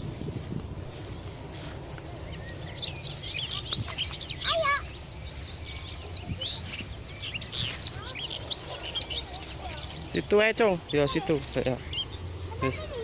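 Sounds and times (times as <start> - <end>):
small birds chirping: 0.9 - 13.0.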